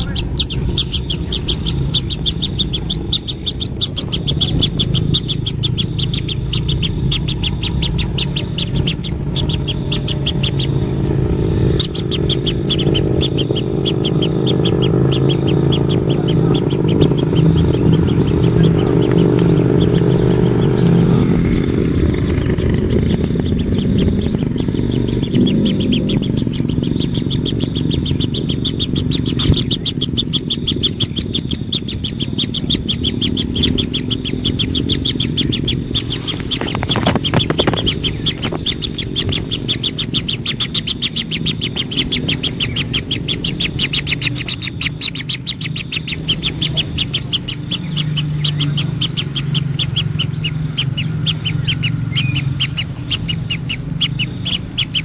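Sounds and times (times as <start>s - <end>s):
bird chirping: 0.0s - 55.0s
low rumble: 0.0s - 55.0s.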